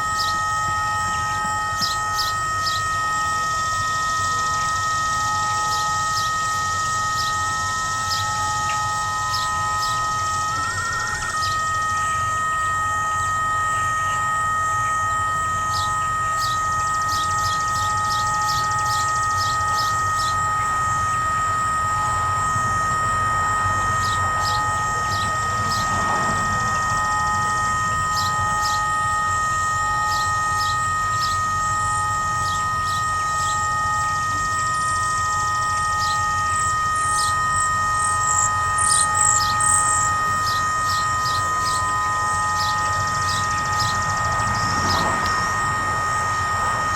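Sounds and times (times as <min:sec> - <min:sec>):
birds chirping: 0:00.0 - 0:03.0, 0:05.0 - 0:12.1, 0:15.7 - 0:21.0, 0:22.7 - 0:29.2, 0:30.0 - 0:34.1, 0:34.8 - 0:46.9
siren steady buzzing tone: 0:00.0 - 0:46.9.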